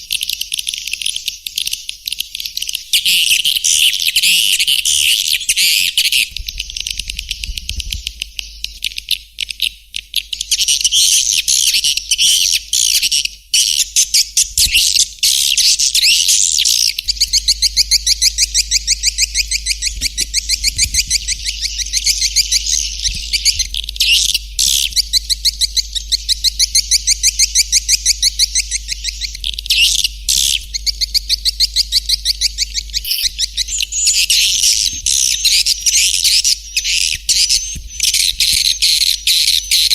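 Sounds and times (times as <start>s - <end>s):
faint low hum: 3.0s - 39.9s.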